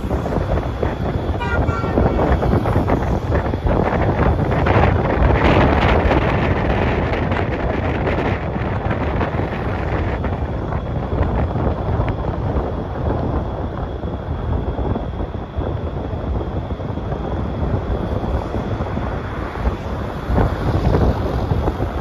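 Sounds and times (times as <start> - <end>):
road and traffic noise: 0.0 - 22.0
wind buffeting microphone: 0.0 - 22.0.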